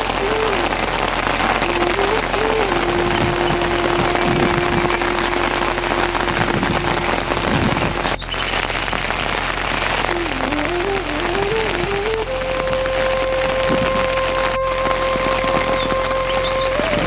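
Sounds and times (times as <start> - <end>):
stepped rising and falling notes: 0.0 - 8.8, 9.9 - 17.0
heavy rain pouring: 0.0 - 17.0
steady hum: 0.0 - 17.0.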